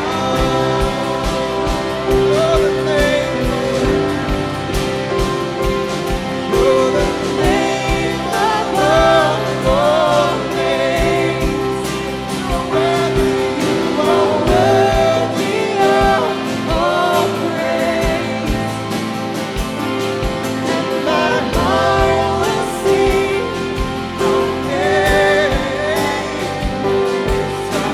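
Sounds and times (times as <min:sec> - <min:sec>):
electric and acoustic guitars: 0:00.0 - 0:27.9
keyboard: 0:00.0 - 0:27.9
person singing lead vocals: 0:00.0 - 0:27.9.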